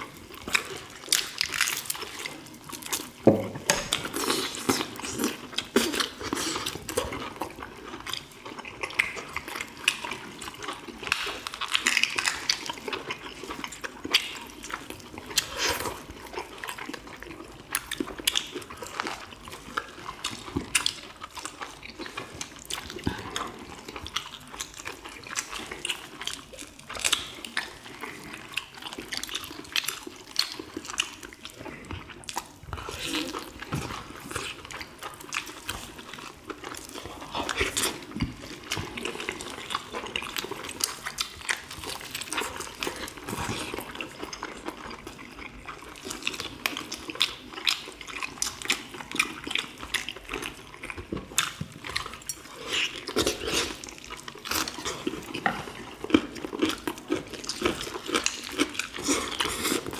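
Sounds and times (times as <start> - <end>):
people chewing meat: 0.0 - 59.9.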